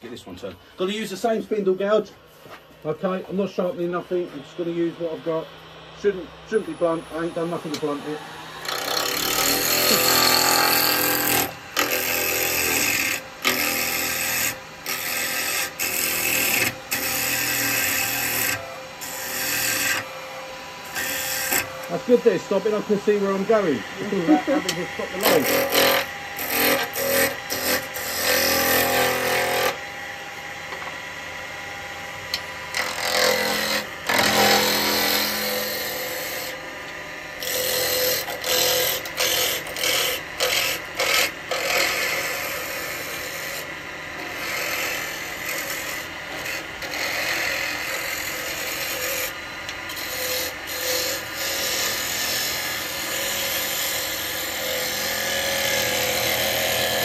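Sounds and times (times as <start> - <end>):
wood lathe running: 2.9 - 57.0.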